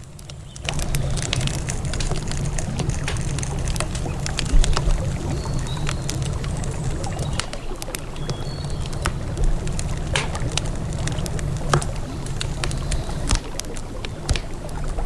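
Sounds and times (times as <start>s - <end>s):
campfire crackling and popping: 0.0s - 15.0s
river water rushing: 0.7s - 15.0s.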